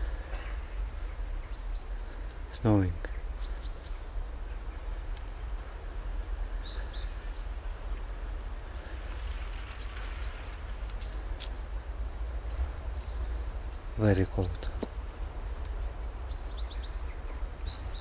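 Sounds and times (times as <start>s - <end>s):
low rumble and hiss: 0.0s - 18.0s.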